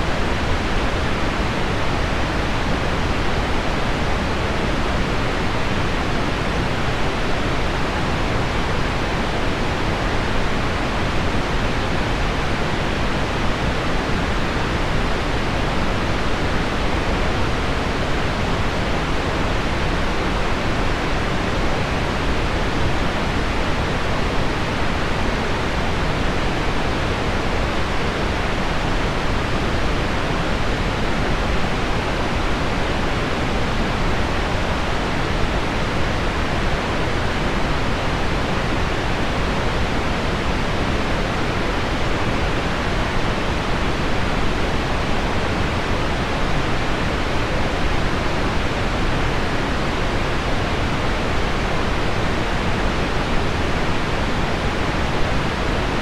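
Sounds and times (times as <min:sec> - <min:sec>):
deep pink noise hiss: 0:00.0 - 0:56.0.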